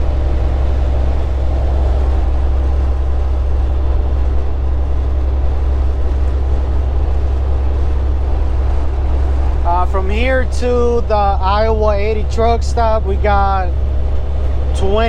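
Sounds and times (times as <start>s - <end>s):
diesel engine drone: 0.0s - 15.0s
road and tyre noise: 0.0s - 15.0s.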